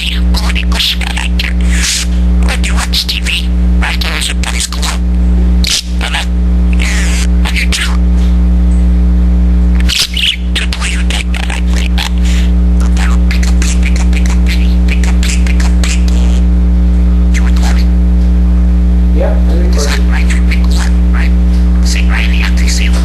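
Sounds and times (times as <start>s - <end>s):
budgie chattering: 0.0s - 8.1s, 9.8s - 16.6s, 17.3s - 18.0s, 19.6s - 23.0s
low hum: 0.0s - 23.0s.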